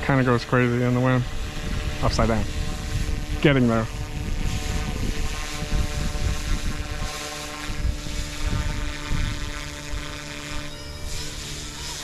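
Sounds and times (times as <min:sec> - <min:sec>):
rc helicopter motor whine: 0:00.0 - 0:12.0
wind rumble on microphone: 0:00.0 - 0:12.0.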